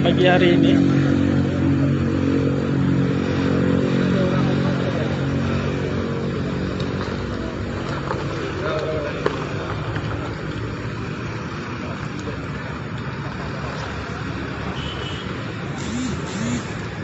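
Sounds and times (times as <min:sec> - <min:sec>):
cars passing: 0:00.0 - 0:17.0
motorcycles passing: 0:00.0 - 0:17.0.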